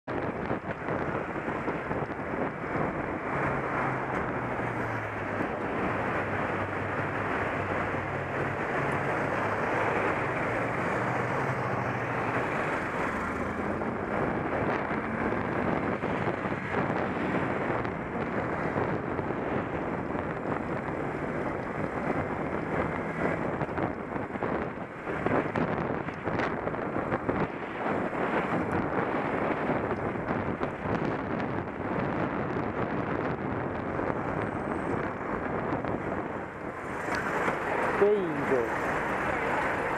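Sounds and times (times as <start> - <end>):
motorcycle engine hum: 0.0 - 39.9
wind rush on microphone: 0.0 - 39.9.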